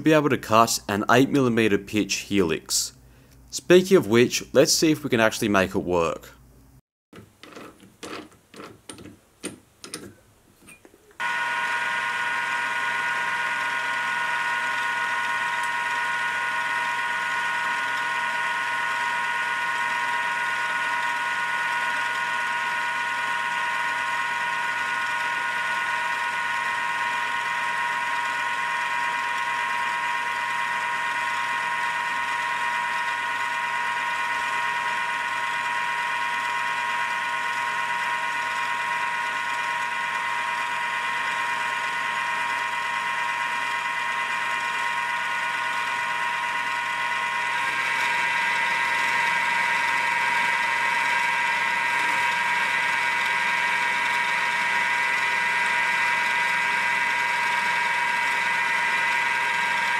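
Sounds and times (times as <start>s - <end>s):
milling machine motor whine: 11.2s - 59.9s.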